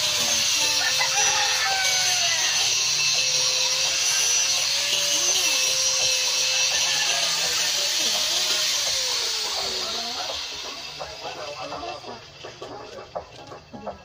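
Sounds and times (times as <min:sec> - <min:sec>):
high whirring hiss: 0:00.0 - 0:14.0.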